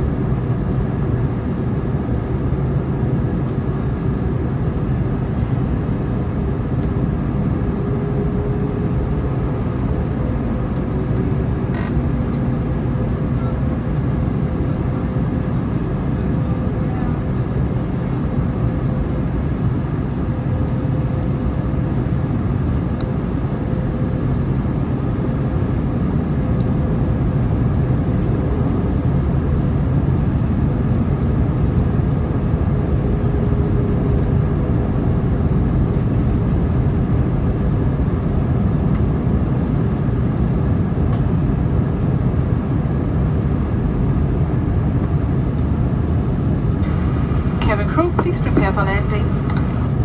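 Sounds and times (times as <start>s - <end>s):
jet airliner rumble and whine: 0.0s - 50.0s.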